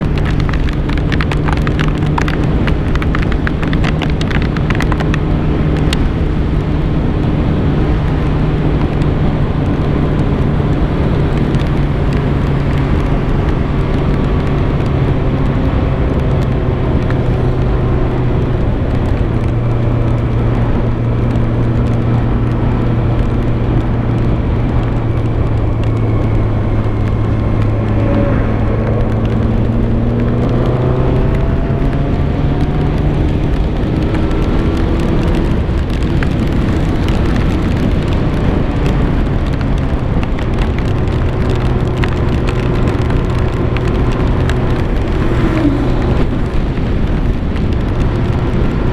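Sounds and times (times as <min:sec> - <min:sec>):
motorcycle engine cruising: 0:00.0 - 0:48.9
sharp crackles: 0:00.0 - 0:48.9
wind rush: 0:00.0 - 0:48.9.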